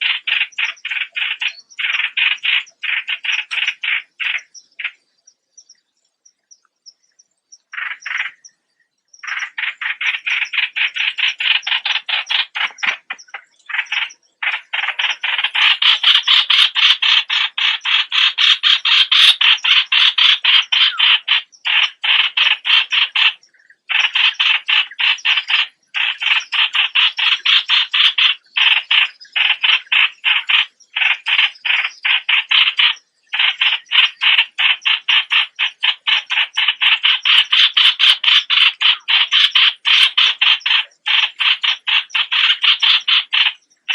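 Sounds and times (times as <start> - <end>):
bird harsh rattling calls: 0.0 - 5.8, 6.9 - 43.9.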